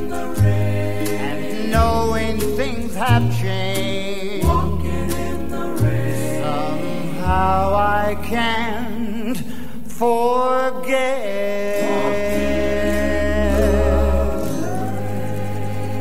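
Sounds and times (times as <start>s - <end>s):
pop ballad singing with band: 0.0s - 9.5s, 11.6s - 16.0s.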